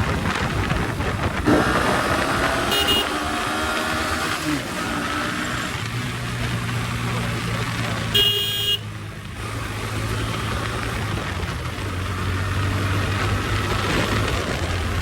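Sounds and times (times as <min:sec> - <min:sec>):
motorcycle engine at low revs: 0:00.0 - 0:15.0
wind and road noise: 0:00.0 - 0:15.0.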